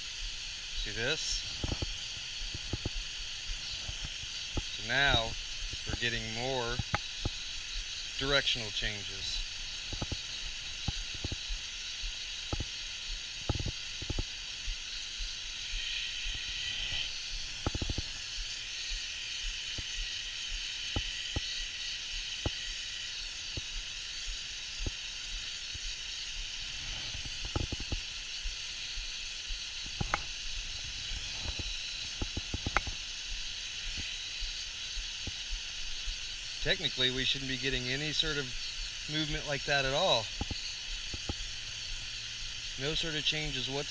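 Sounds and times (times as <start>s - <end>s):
water mister hissing: 0.0s - 43.9s.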